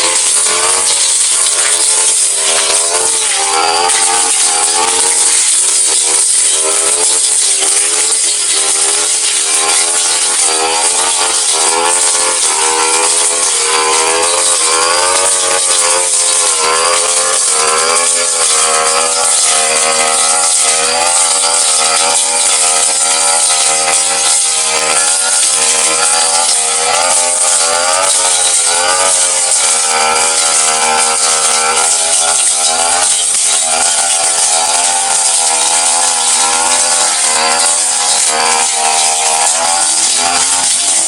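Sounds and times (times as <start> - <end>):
brush cutter engine cutting grass: 0.0 - 41.0.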